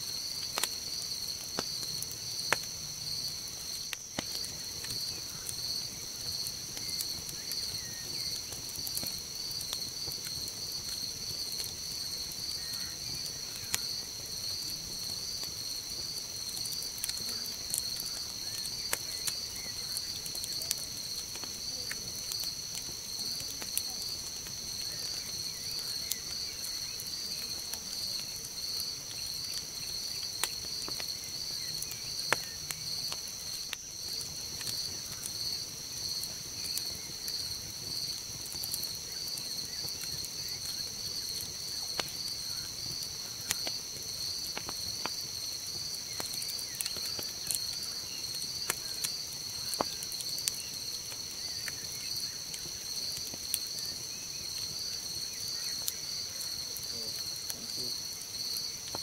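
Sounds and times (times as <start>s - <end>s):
campfire crackling and popping: 0.0s - 59.0s
night insects trilling: 0.0s - 59.0s.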